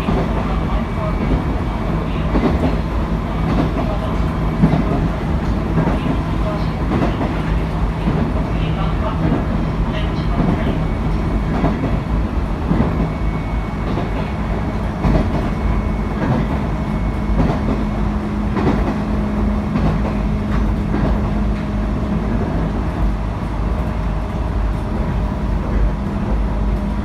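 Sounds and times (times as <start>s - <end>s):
train rumbling at speed: 0.0s - 27.0s.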